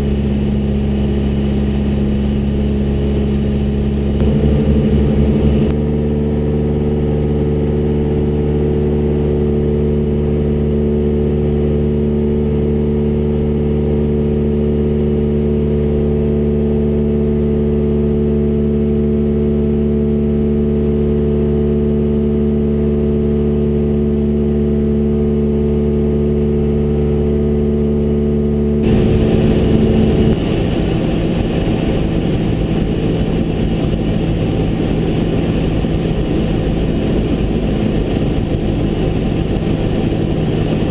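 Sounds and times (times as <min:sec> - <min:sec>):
aircraft engine droning: 0:00.0 - 0:40.9.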